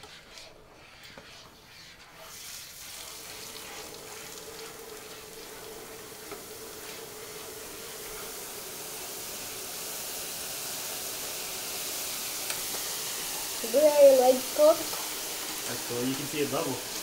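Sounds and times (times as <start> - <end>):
liquid nitrogen hissing: 0.0 - 17.0.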